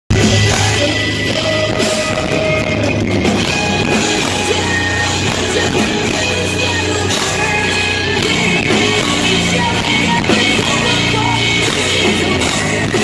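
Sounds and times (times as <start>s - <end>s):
drum kit: 0.1s - 13.0s
electric guitars: 0.1s - 13.0s.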